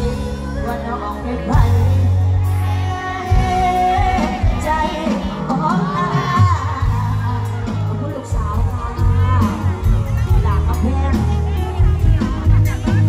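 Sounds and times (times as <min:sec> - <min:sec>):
band music with bass beat: 0:00.0 - 0:13.0
person singing live: 0:00.0 - 0:13.0.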